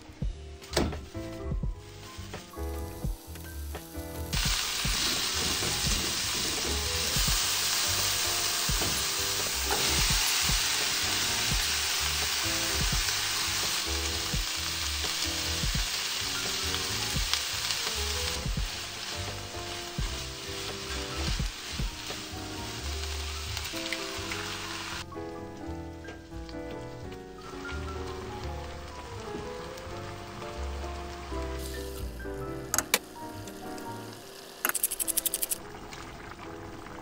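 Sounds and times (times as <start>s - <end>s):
food sizzling in frying pan: 1.0s - 25.2s, 26.0s - 35.8s.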